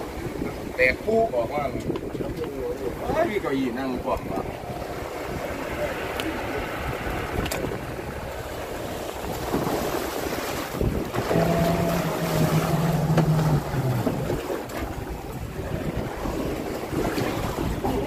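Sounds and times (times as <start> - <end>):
waves washing on concrete ramp: 0.0 - 18.0
wind buffeting microphone: 0.0 - 18.0.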